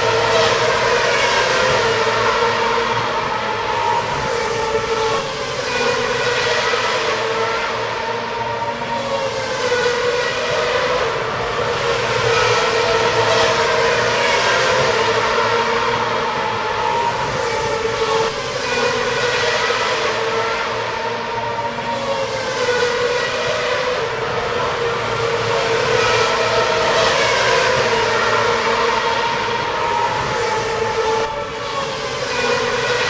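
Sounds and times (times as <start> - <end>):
racing car engines at high revs: 0.0 - 33.0.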